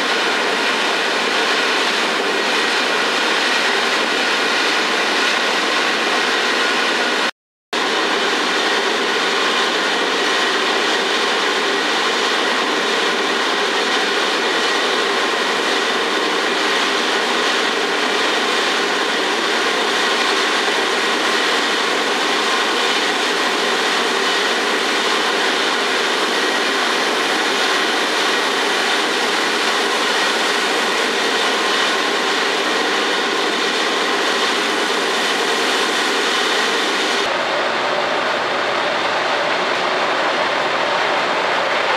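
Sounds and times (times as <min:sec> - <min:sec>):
loud machinery noise: 0:00.0 - 0:41.9.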